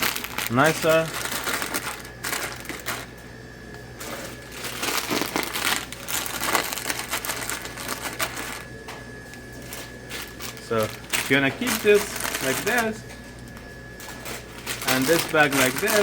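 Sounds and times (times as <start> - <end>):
plastic bags crinkling: 0.0 - 3.2, 4.0 - 8.8, 9.4 - 16.0.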